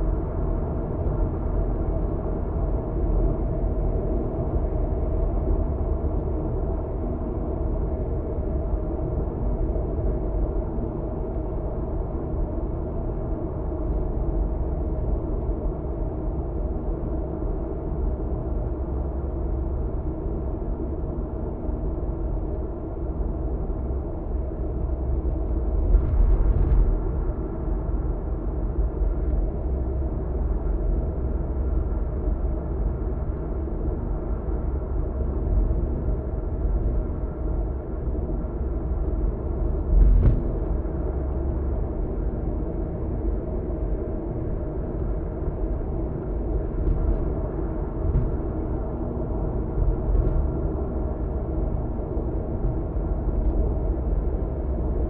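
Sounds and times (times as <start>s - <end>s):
car tyre and engine rumble: 9.9s - 55.0s.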